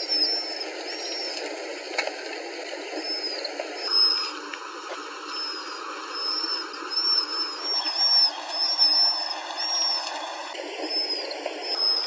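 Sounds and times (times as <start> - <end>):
small bird calling: 0.0 - 1.5, 2.9 - 4.5, 5.2 - 12.0
outdoor background noise: 0.0 - 12.0.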